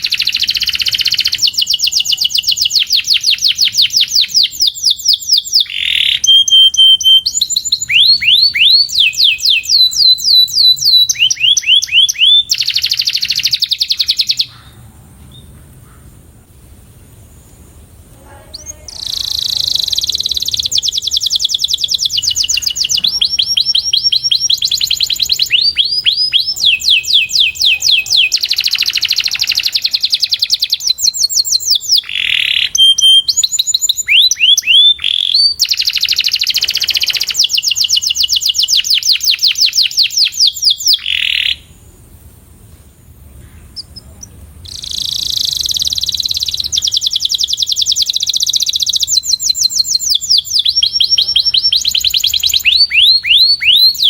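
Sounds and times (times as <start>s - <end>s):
canary singing trills: 0.0s - 16.2s, 17.8s - 41.9s, 43.3s - 54.0s.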